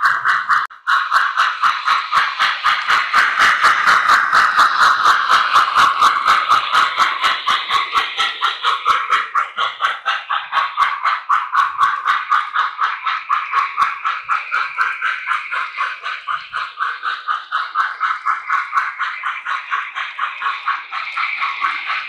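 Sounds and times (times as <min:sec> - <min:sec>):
continuous steam hiss: 0:00.0 - 0:22.0
model steam locomotive chuffing: 0:00.0 - 0:22.0.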